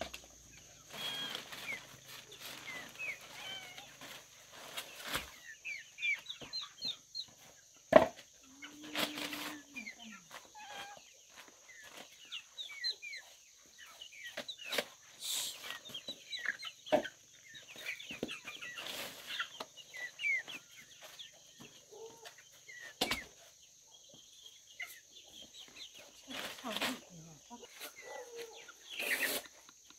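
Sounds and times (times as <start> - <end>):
chicks chirping: 0.0 - 29.9.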